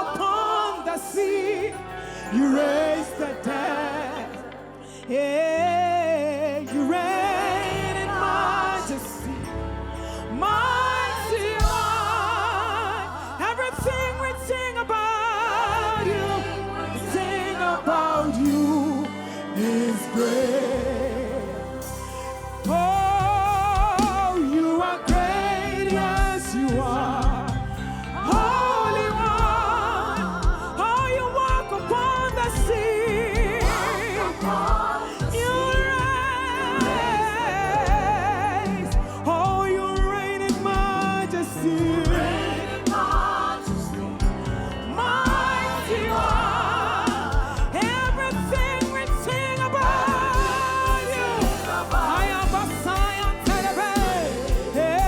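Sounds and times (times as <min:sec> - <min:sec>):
person singing with vibrato: 0:00.0 - 0:55.0
backing band with bass and drums: 0:06.7 - 0:55.0.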